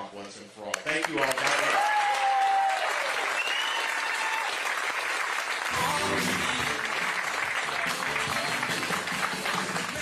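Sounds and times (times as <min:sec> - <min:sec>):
audience applauding: 0:00.9 - 0:10.0.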